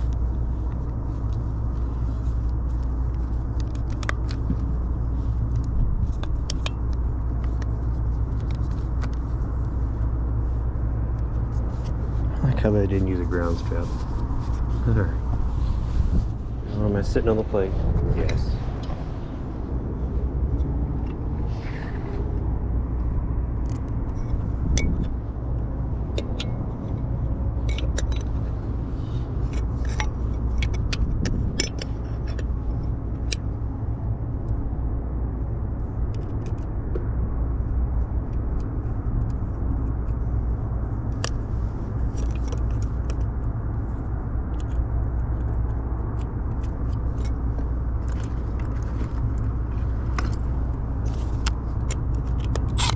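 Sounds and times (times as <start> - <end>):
constant hum: 0.0 - 52.9
low mechanical rumble: 0.0 - 52.9.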